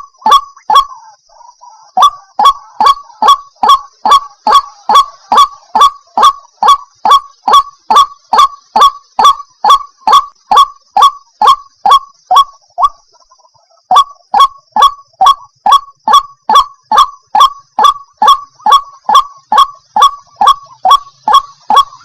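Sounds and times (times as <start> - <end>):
waterhen calling kwak notes: 0.0 - 22.0.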